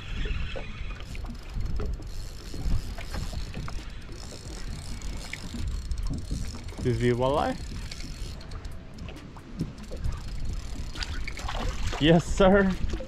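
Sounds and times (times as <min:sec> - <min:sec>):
wind and water against boat: 0:00.0 - 0:13.0
fishing tackle clicks and knocks: 0:01.0 - 0:13.0.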